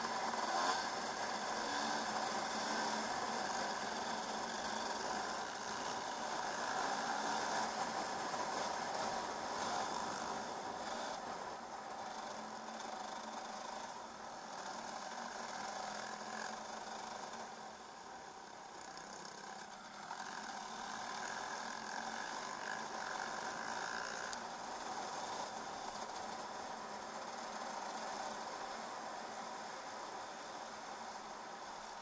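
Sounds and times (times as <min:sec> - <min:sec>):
motorbike two-stroke engine running: 0:00.0 - 0:32.0.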